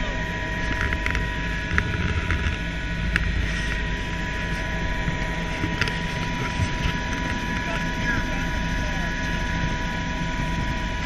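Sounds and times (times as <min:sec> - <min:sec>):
helicopter drone: 0:00.0 - 0:11.0
high whine: 0:00.0 - 0:11.0.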